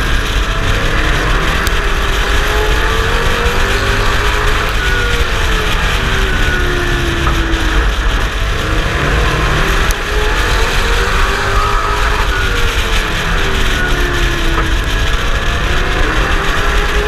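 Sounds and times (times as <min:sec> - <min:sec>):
race truck engine revving: 0:00.0 - 0:17.0
road rumble: 0:00.0 - 0:17.0
wind noise: 0:00.0 - 0:17.0.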